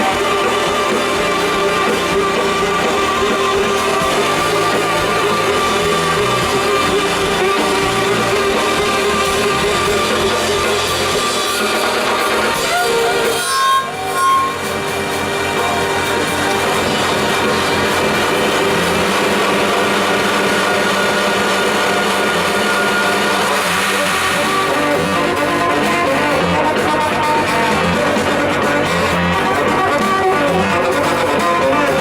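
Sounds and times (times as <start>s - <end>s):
live band playing: 0.0s - 32.0s.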